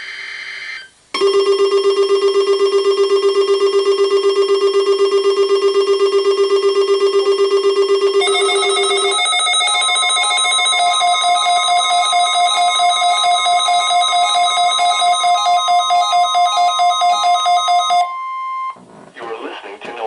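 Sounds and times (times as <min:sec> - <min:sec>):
alternating two-note alarm beep: 0:01.2 - 0:18.8
low pulsing alarm beep: 0:01.2 - 0:18.8.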